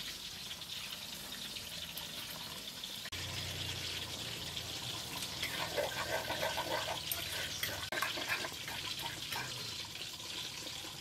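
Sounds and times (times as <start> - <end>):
liquid trickling and dripping: 0.0 - 11.0.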